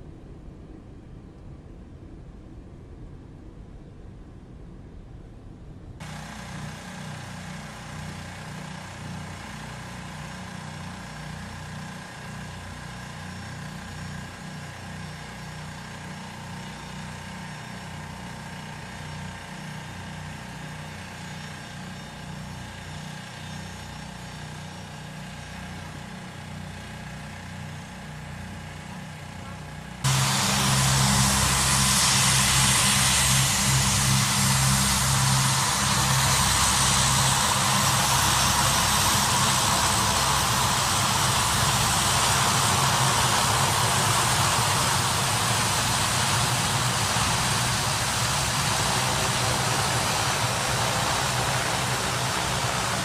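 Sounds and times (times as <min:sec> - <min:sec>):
turbine engine whine and rumble: 0:00.0 - 0:53.0.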